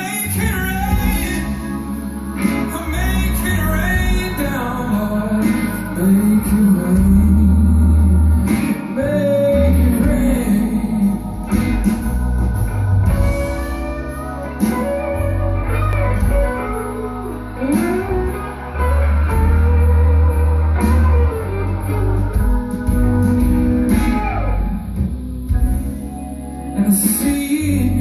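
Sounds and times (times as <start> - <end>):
blues-rock band: 0.0 - 28.0
electric guitar sliding notes: 0.0 - 28.0
organ: 0.0 - 28.0.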